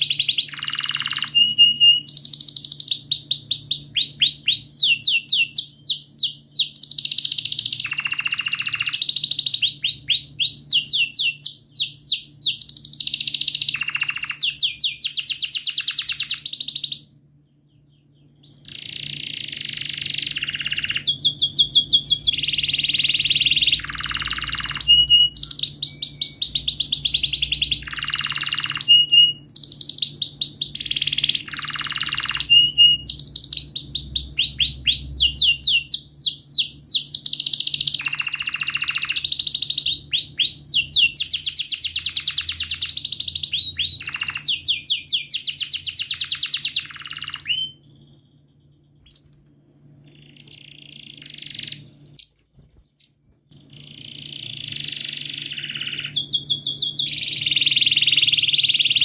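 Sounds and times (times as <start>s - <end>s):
canary singing chirps and trills: 0.0s - 59.0s.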